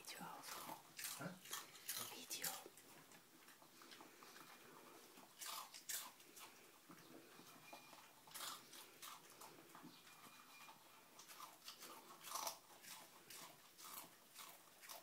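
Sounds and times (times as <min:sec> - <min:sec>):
dog chewing dry food: 0:00.4 - 0:15.0.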